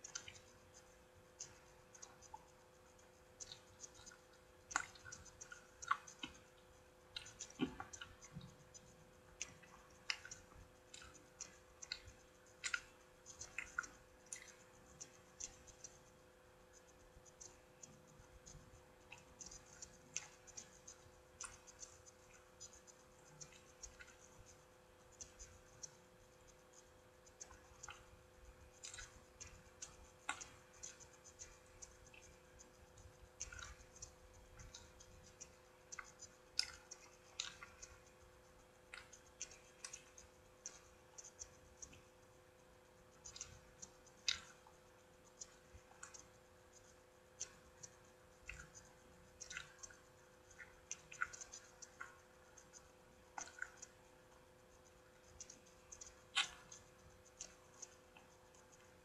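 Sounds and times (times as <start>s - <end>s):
chewing clicks and crackles: 0.0s - 59.0s
faint steady hum: 0.0s - 59.0s.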